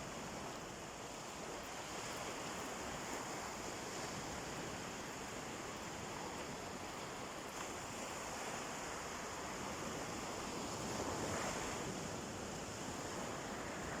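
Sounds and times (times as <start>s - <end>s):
sea waves washing onto beach: 0.0s - 14.0s.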